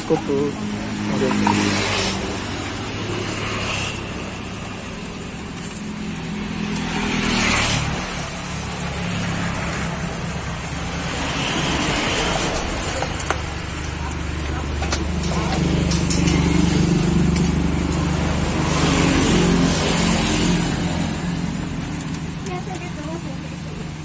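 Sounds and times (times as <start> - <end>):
road traffic engine hum: 0.0 - 24.0
vehicles passing: 0.0 - 24.0.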